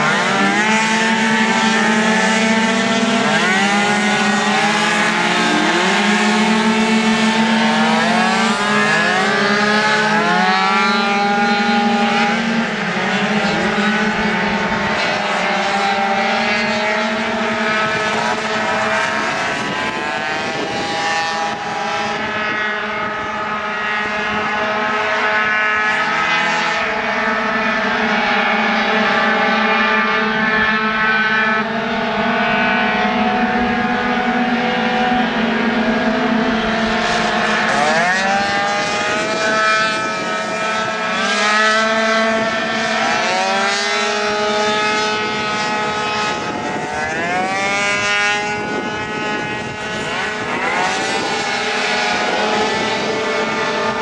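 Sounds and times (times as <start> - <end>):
racing scooter engines revving: 0.0 - 54.0.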